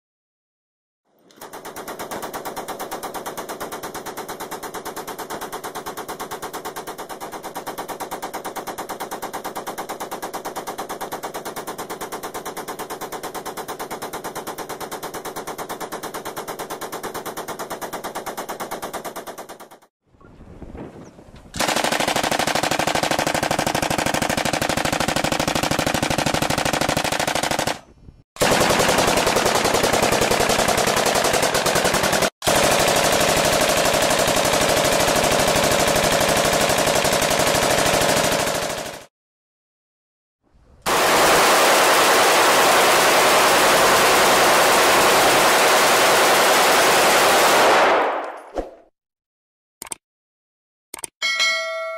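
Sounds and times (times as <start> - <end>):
machine gun automatic fire: 1.3 - 19.9, 21.6 - 27.8, 28.4 - 39.1, 40.9 - 48.4.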